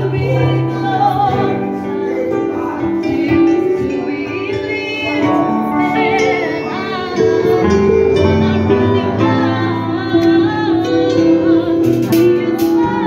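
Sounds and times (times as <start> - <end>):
keyboards and bass guitar: 0.0 - 13.0
people singing: 0.0 - 13.0.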